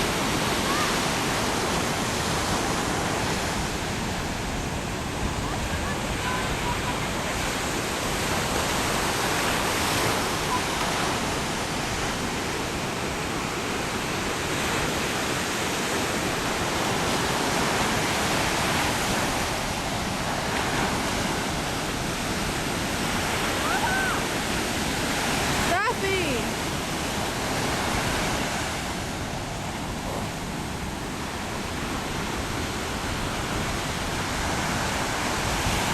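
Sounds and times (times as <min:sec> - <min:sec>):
fast river water rushing: 0:00.0 - 0:35.9.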